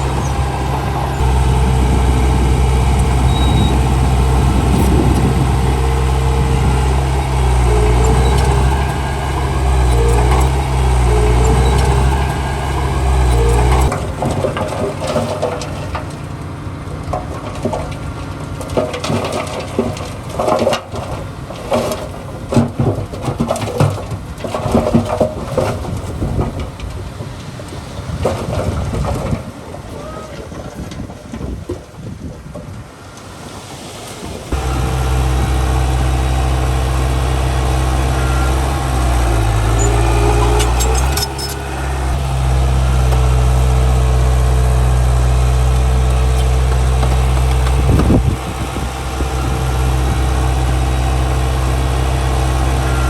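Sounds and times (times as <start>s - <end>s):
diesel machinery engine running: 0.0s - 29.4s, 34.5s - 53.0s
knocks and clatter: 0.0s - 29.8s, 34.5s - 50.1s.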